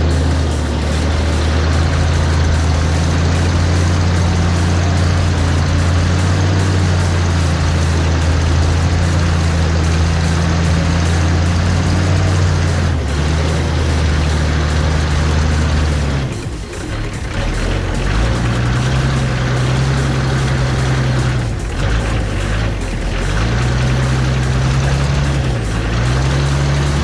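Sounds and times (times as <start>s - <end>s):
backhoe engine running: 0.0s - 27.0s.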